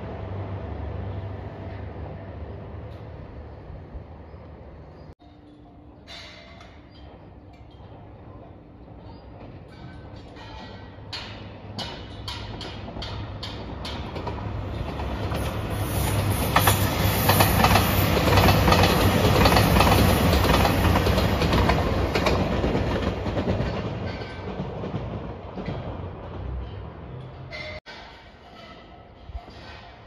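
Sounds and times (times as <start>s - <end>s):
diesel train passing: 0.0s - 6.1s, 7.0s - 27.8s
wheels clacking over rail joints: 5.2s - 30.0s.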